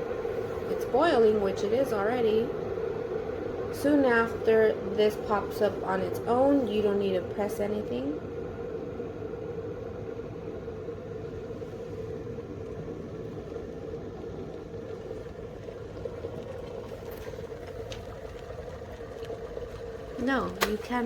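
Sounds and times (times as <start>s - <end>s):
electric kettle boiling: 0.0s - 21.0s.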